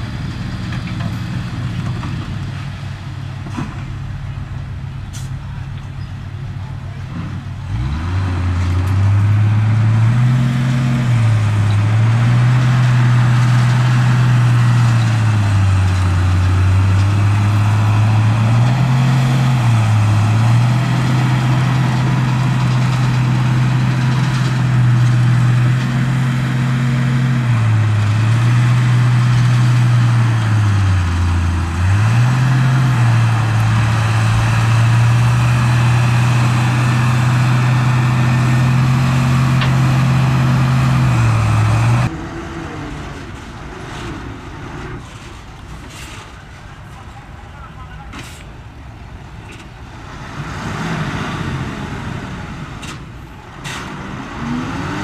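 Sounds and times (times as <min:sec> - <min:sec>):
heavy diesel engine running: 0:00.0 - 0:48.4.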